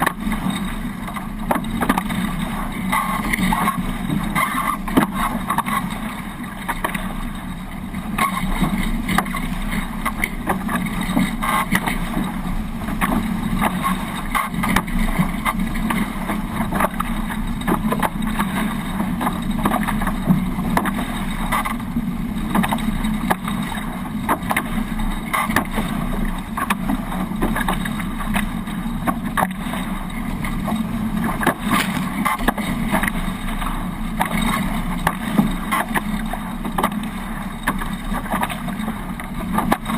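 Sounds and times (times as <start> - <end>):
sharp knocks and splashes: 0.0 - 21.8, 22.4 - 39.9
water rushing along hulls: 0.0 - 39.9.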